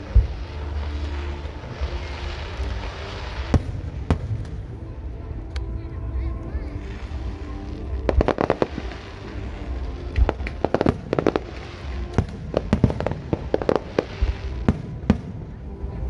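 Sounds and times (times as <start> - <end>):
fireworks bursting bangs: 0.0 - 5.1, 6.8 - 16.0.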